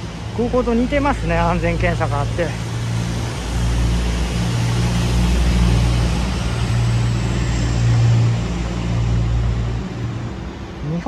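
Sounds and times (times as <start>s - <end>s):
engine drone: 0.0s - 11.0s
road traffic rumble: 0.0s - 11.0s.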